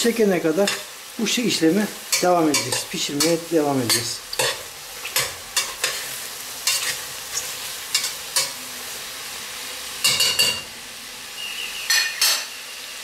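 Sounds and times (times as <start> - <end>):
vegetables sizzling in pot: 0.0 - 13.0.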